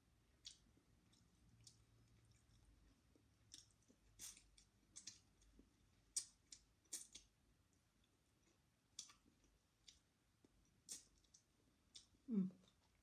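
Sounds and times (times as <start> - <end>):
mouth chewing clicks and smacks: 0.3 - 13.0.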